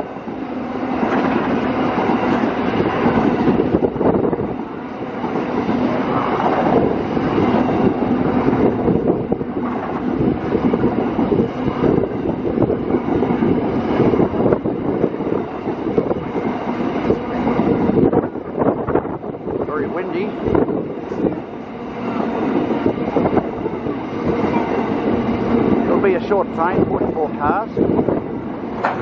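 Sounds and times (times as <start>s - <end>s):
freight train rumbling past: 0.0s - 29.0s
wheels clattering on rails: 0.0s - 29.0s.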